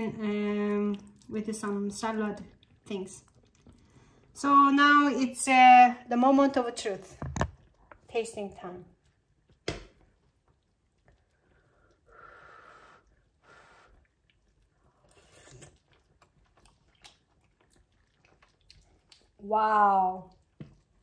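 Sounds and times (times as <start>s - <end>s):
quiet chewing: 0.0s - 4.4s, 7.0s - 21.0s.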